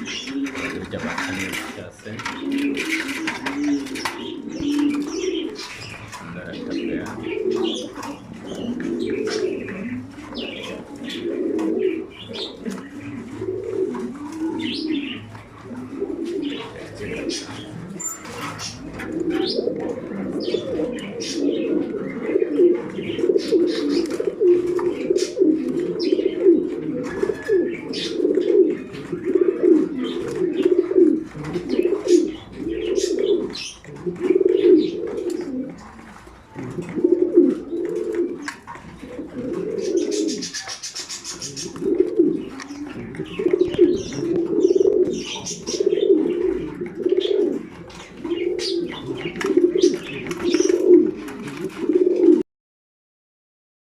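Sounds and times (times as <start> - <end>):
pigeon chirps and clicks: 0.0 - 52.4
pigeons cooing: 0.0 - 52.4.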